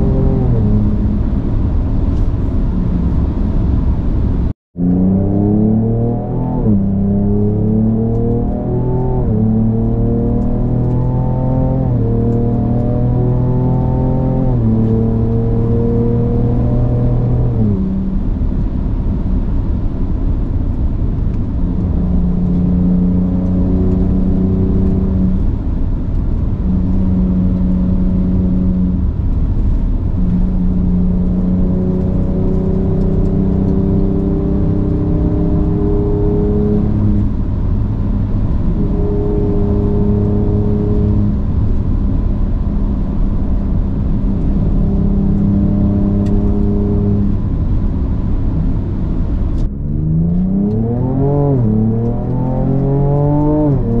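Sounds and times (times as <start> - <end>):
low road rumble: 0.0 - 54.0
truck engine and exhaust: 0.0 - 54.0.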